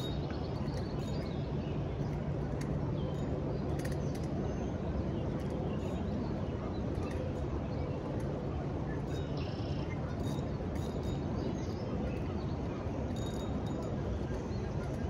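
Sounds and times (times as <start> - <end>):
low rush of outdoor noise: 0.0 - 15.0.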